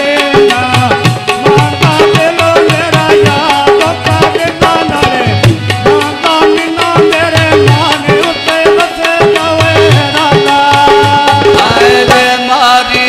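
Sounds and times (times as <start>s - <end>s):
harmonium playing held notes: 0.0s - 13.0s
man singing: 0.0s - 13.0s.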